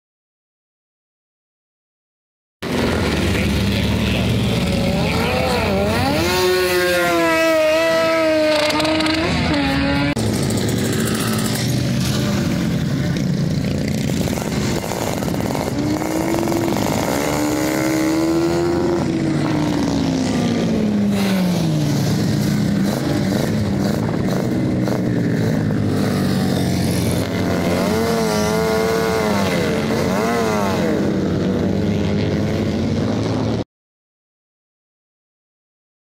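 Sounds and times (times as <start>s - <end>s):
motorcycle engines droning: 2.6s - 33.6s.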